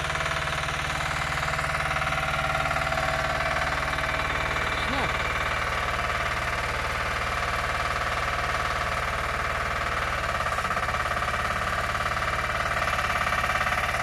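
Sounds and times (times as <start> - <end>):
small diesel engine idling: 0.0 - 14.0.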